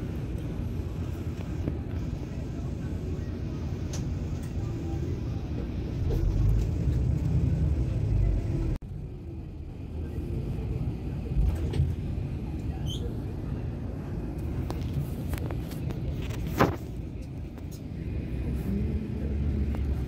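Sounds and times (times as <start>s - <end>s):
vehicle cabin rumble: 0.0s - 20.0s.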